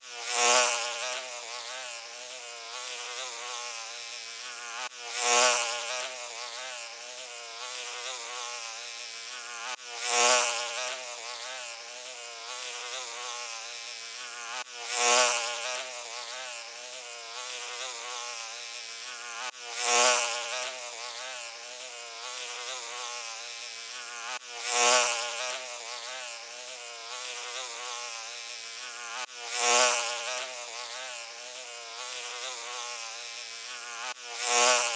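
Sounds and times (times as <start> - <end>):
fly buzzing: 0.0 - 34.9.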